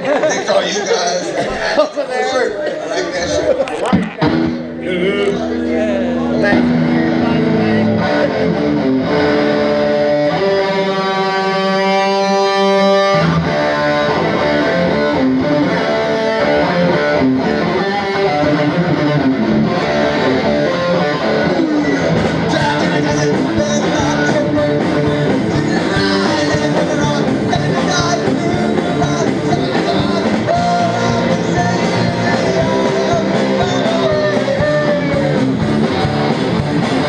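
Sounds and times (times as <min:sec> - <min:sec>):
bass guitar: 0:03.2 - 0:37.0
drums: 0:03.9 - 0:37.0.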